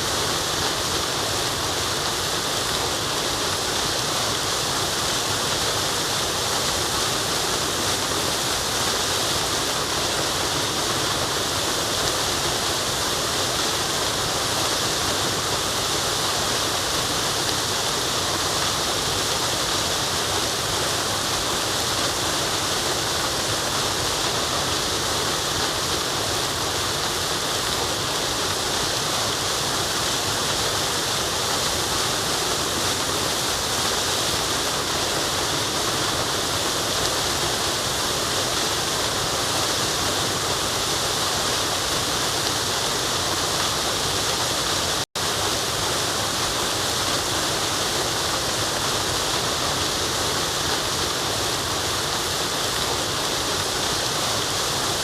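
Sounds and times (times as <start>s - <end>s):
waterfall pouring: 0.0s - 55.0s.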